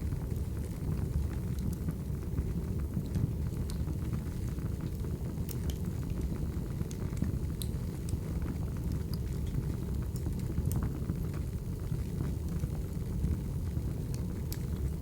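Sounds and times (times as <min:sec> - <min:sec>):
fire flames rumbling: 0:00.0 - 0:15.0
firewood crackling and popping: 0:00.2 - 0:15.0.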